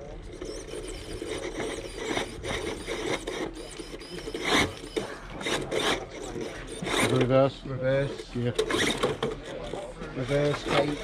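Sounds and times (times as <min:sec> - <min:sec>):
rc car scraping over obstacles: 0:00.3 - 0:11.0.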